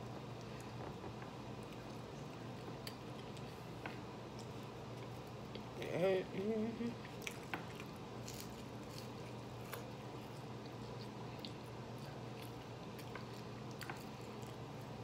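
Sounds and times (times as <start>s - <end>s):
steady low hum: 0.0s - 15.0s
person chewing: 1.5s - 5.8s, 6.9s - 15.0s.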